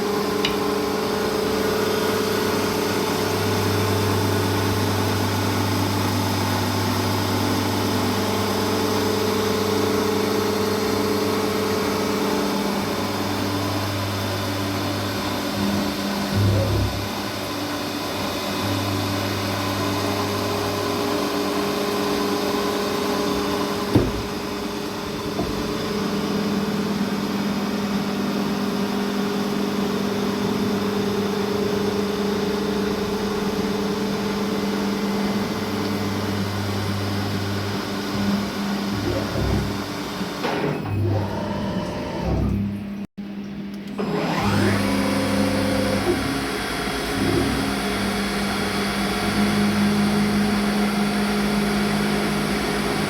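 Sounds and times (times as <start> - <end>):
milling machine motor hum: 0.0 - 43.0, 43.6 - 53.0.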